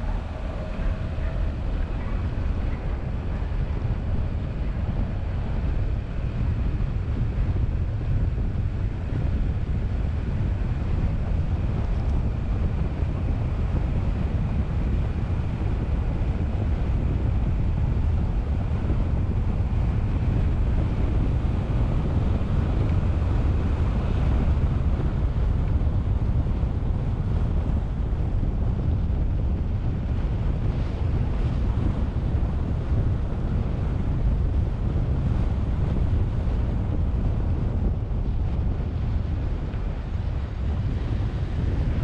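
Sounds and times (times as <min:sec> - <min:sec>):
road noise: 0:00.0 - 0:42.0
wind buffeting microphone: 0:00.0 - 0:42.0.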